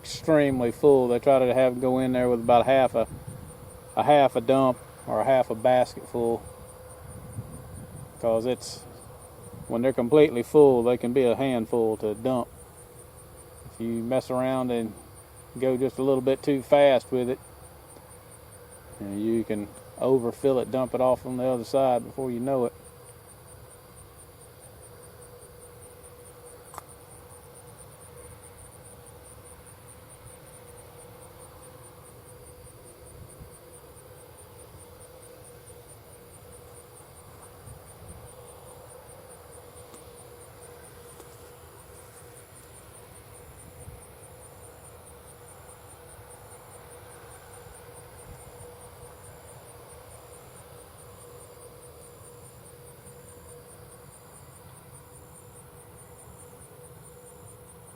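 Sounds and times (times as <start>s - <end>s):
faint steady hum: 0.0s - 57.9s
insects chirping fast: 0.0s - 57.9s
slower pulsing insect chirp: 0.0s - 57.9s.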